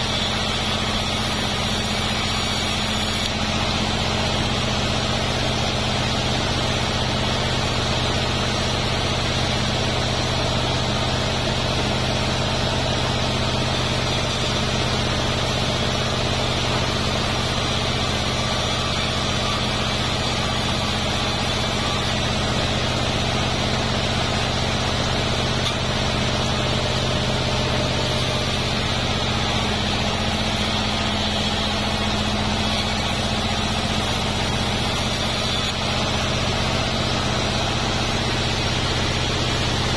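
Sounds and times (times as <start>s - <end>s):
bandsaw mill humming: 0.0s - 39.9s.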